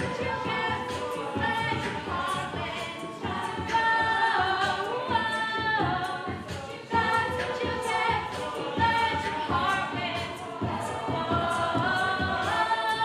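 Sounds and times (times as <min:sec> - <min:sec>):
a cappella group singing harmony: 0:00.0 - 0:13.0
steady beat: 0:00.0 - 0:13.0.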